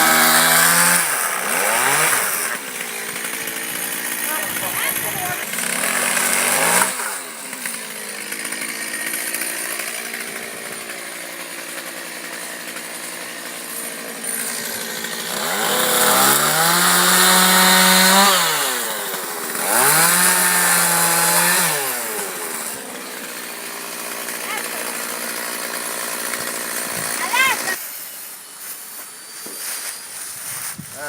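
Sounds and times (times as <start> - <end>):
chainsaw idling and revving: 0.0 - 28.2.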